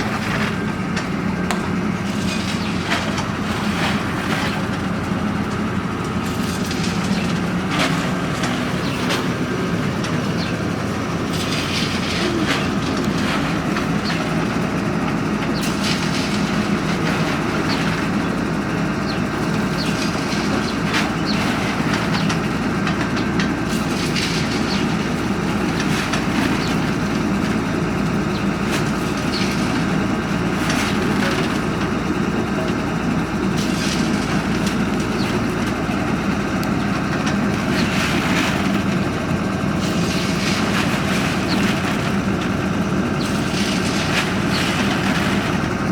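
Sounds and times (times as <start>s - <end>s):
drilling rig engine running: 0.0s - 45.9s.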